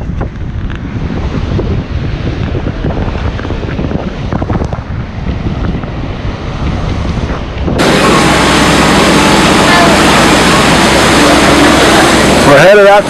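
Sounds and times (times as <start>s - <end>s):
boat engine: 0.0s - 13.0s
wind buffeting microphone: 0.0s - 13.0s
rushing water: 0.6s - 13.0s.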